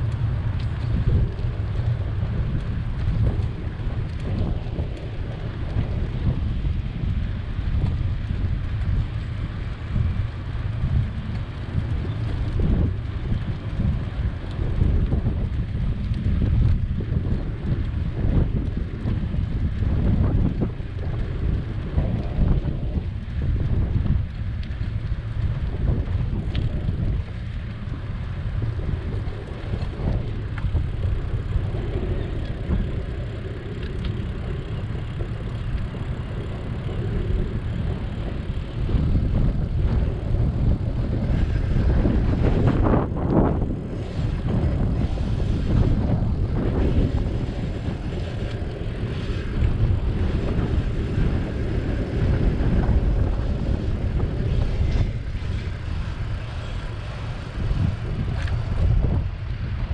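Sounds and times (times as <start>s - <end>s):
city traffic: 0.0s - 16.4s, 20.6s - 59.9s
wind rushing over microphone: 0.0s - 59.9s.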